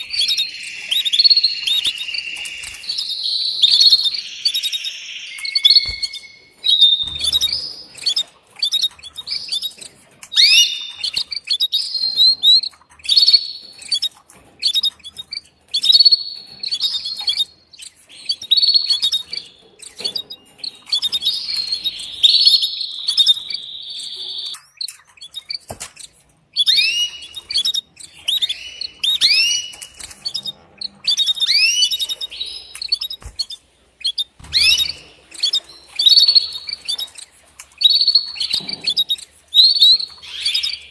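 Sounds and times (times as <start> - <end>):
canary chirps and trill: 0.0 - 40.9.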